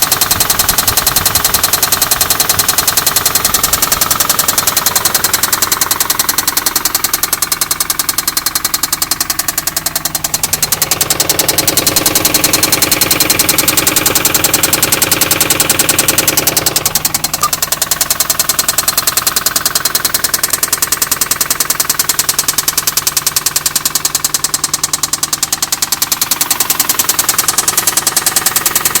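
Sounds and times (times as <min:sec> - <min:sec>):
engine running with rhythmic knock: 0:00.0 - 0:29.0.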